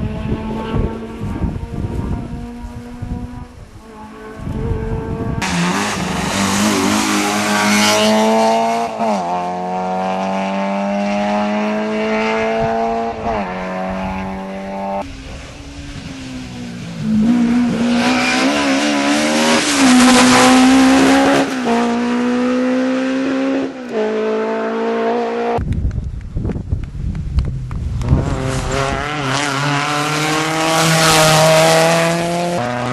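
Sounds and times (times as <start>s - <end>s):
rally car engine revving: 0.0s - 25.6s, 27.8s - 32.9s.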